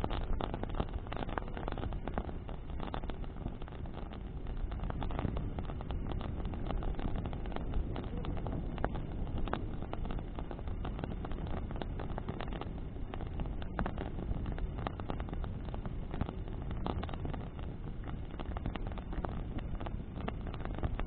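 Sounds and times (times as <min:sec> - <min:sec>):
low rumble of wind and flame: 0:00.0 - 0:21.0
wood crackling and popping: 0:00.0 - 0:21.0.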